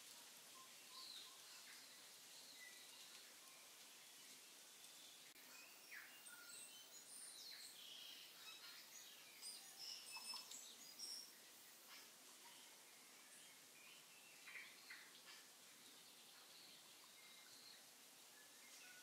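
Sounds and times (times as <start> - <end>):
faint background hiss: 0.0 - 19.0
faint high bird chirps: 0.6 - 19.0.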